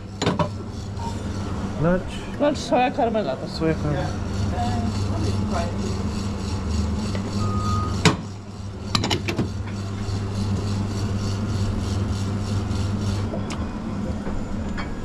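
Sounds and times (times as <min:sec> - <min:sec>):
coffee machine humming: 0:00.0 - 0:15.0.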